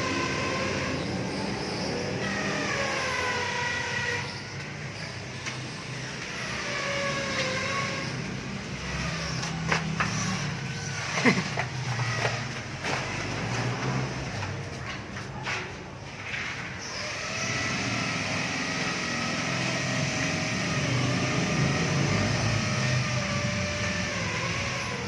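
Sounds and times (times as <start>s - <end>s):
vehicle engines passing: 0.0s - 25.0s.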